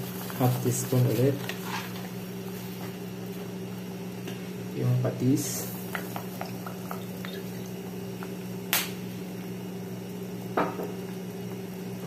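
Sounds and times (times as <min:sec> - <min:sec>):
steady low hum: 0:00.0 - 0:12.0
water boiling in a pot: 0:00.0 - 0:12.0.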